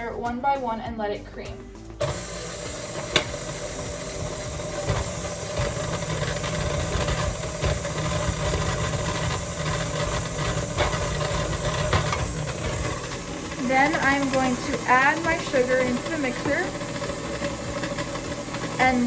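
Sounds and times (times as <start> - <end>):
stand mixer running: 1.8 - 19.0.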